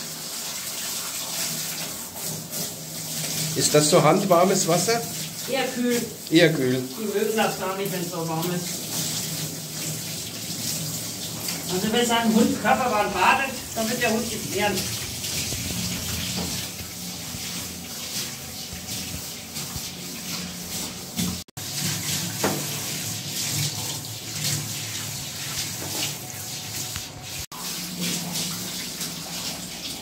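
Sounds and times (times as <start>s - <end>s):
shower spraying water into tub: 0.0s - 30.0s.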